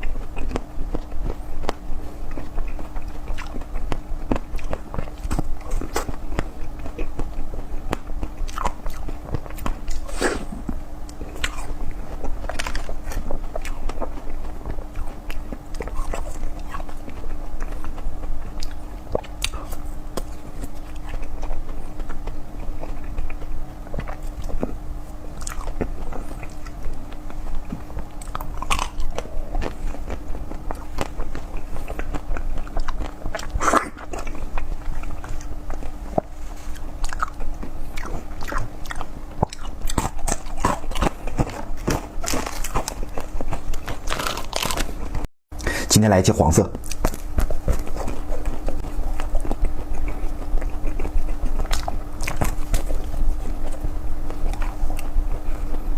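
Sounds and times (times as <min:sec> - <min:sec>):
biting and chewing food: 0:00.0 - 0:45.8, 0:46.5 - 0:55.9.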